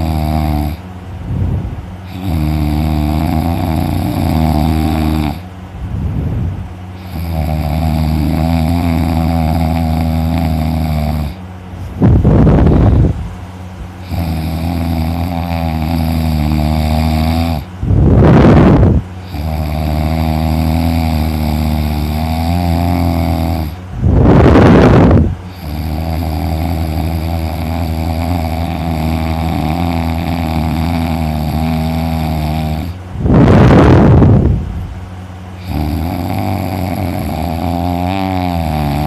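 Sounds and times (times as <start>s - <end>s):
man snoring heavily: 0.0s - 1.4s, 2.0s - 5.5s, 7.0s - 11.4s, 14.0s - 34.5s, 35.6s - 39.0s.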